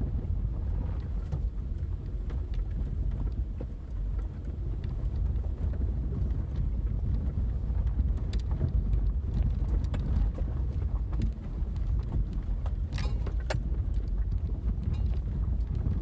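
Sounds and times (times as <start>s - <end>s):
car engine and tyres rumbling: 0.0s - 16.0s
car knocks and rattles over bumps: 0.0s - 16.0s.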